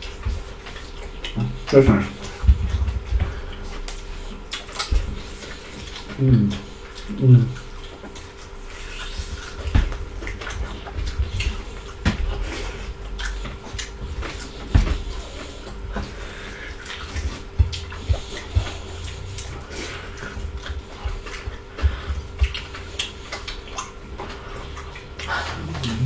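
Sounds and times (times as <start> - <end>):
wet chewing and lip smacks: 0.0 - 26.0.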